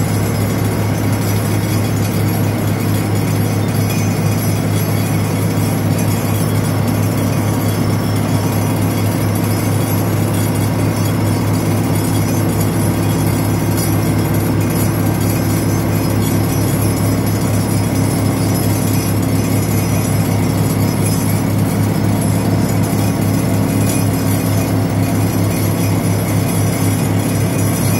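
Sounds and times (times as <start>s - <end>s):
vibratory pile driver humming: 0.0s - 27.9s.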